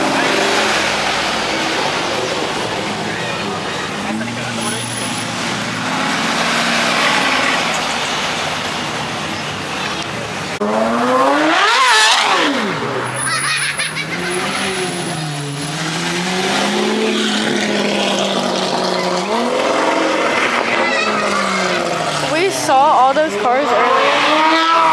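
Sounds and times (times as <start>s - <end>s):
car engine accelerating hard: 0.0s - 24.9s
drone of slow car engines: 0.0s - 24.9s.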